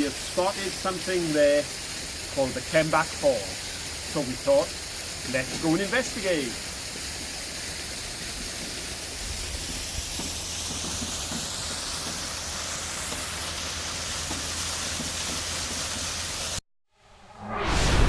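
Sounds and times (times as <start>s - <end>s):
waterfall and stream rushing: 0.0s - 16.6s.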